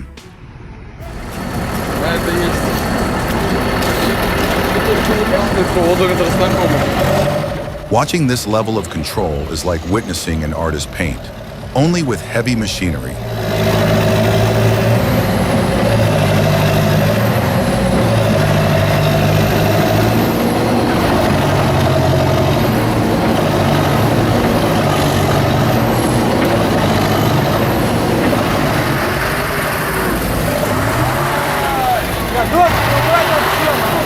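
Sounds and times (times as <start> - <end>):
heavy engine running: 0.0 - 34.0.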